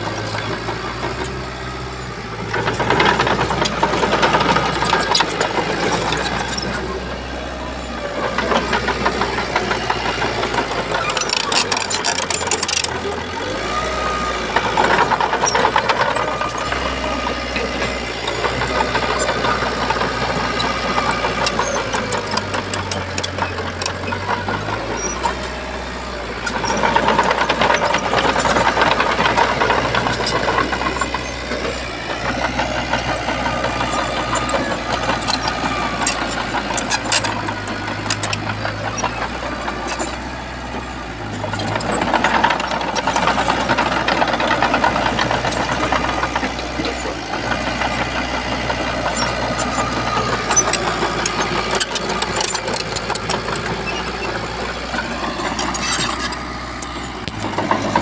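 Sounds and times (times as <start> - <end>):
bulldozer diesel engine working: 0.0 - 58.0
clicking and knocking: 0.1 - 6.9, 8.3 - 58.0.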